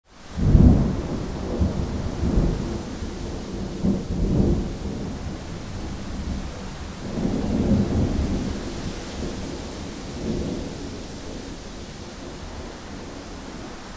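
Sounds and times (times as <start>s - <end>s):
rolling thunder: 0.4s - 13.3s.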